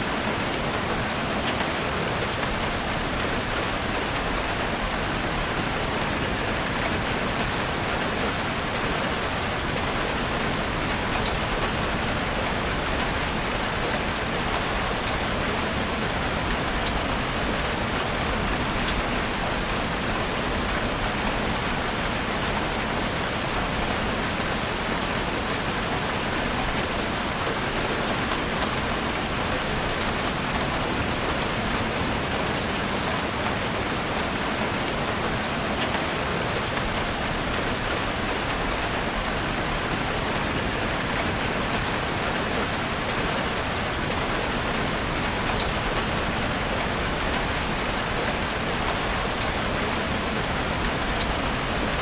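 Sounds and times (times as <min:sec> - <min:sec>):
heavy rain drumming on a roof: 0:00.0 - 0:52.0.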